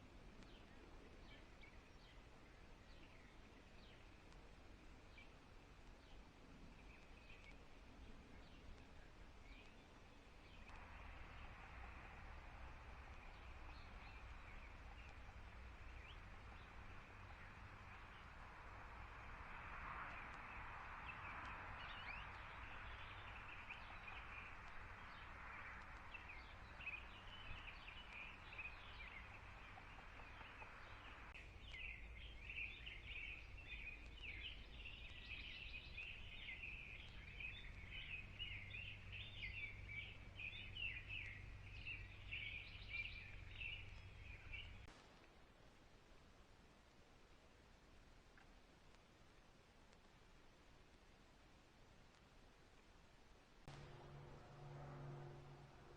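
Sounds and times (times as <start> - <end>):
birds chirping: 0.0 - 44.9
faint low hum: 0.0 - 55.9.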